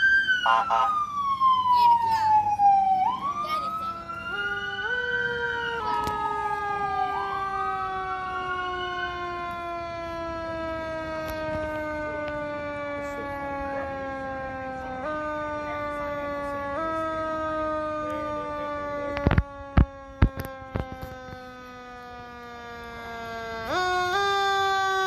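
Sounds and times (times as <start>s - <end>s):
fire engine sirens wailing: 0.0s - 25.0s.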